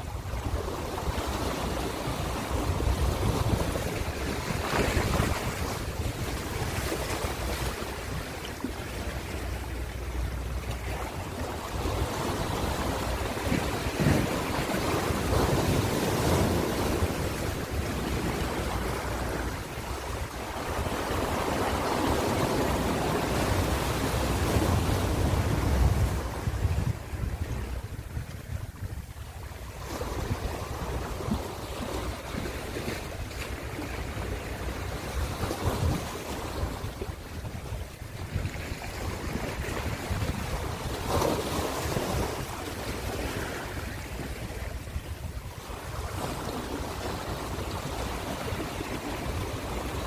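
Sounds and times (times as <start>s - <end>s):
ocean waves breaking: 0.0s - 50.0s
wind rumble on microphone: 0.0s - 50.0s.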